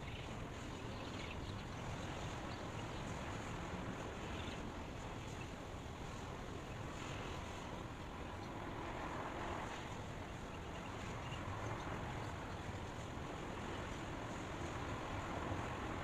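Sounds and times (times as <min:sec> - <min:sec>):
white noise hiss: 0:00.0 - 0:16.0.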